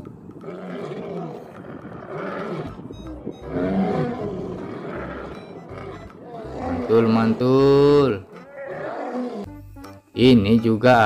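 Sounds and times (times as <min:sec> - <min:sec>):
lion roaring: 0:00.4 - 0:09.5.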